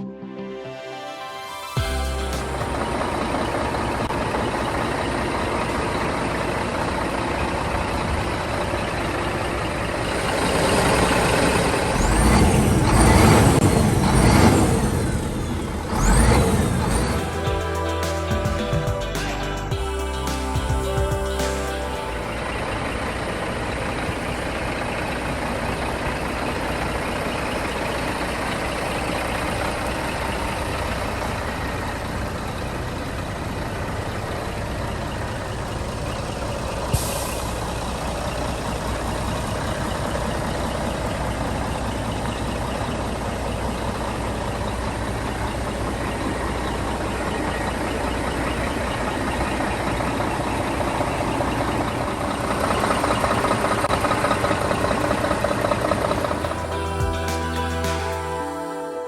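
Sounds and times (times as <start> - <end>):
diesel truck engine running: 1.8 - 58.4.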